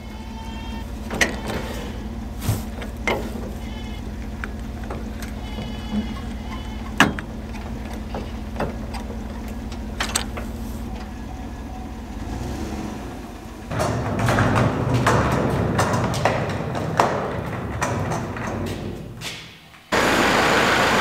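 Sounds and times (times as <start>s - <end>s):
truck engine idling: 0.0s - 19.2s
cart rolling on concrete: 0.0s - 21.0s.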